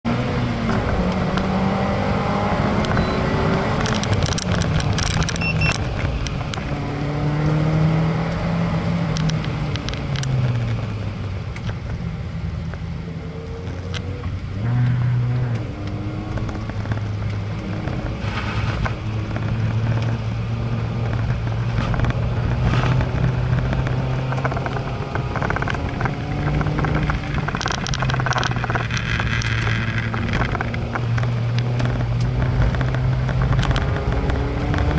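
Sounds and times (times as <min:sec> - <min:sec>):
vehicle engine shifting gears: 0:00.0 - 0:34.9.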